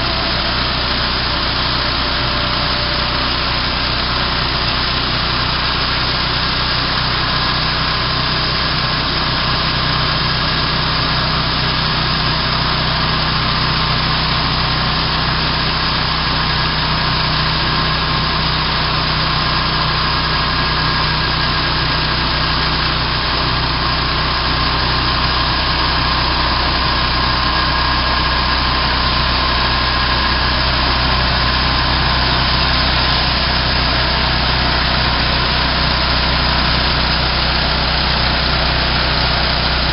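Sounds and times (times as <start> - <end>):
band saw cutting a log: 0.0 - 39.9
small engine running: 0.0 - 39.9.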